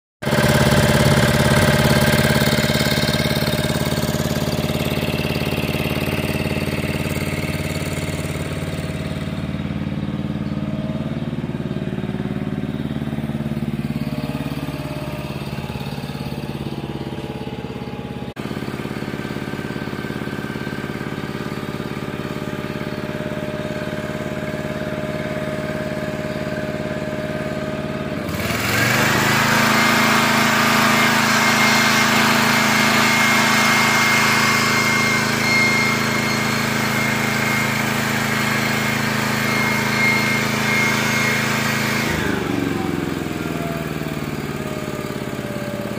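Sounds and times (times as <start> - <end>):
electric leaf blower whoosh: 0.2 - 45.9
generator engine running: 0.2 - 45.9.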